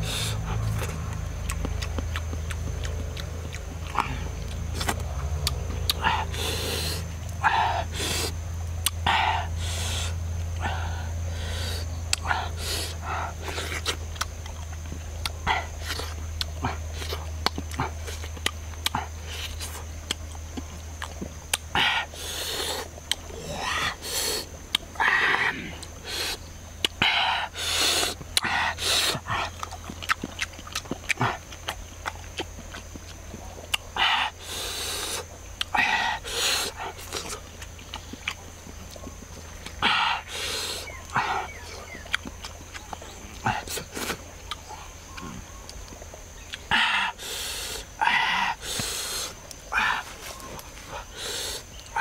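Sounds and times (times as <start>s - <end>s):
man chewing and smacking lips: 0.0s - 52.0s.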